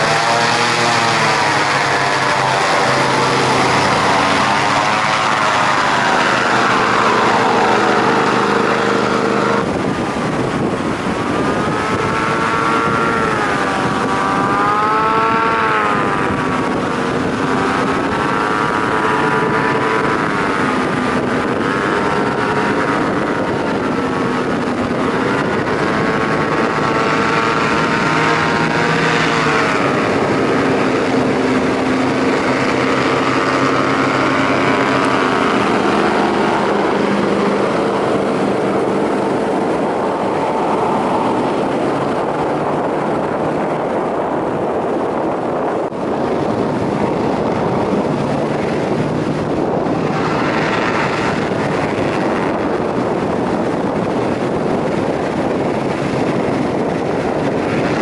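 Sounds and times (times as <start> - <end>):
hovercraft engine and propeller: 0.0 - 58.0
steady rushing noise: 0.0 - 58.0.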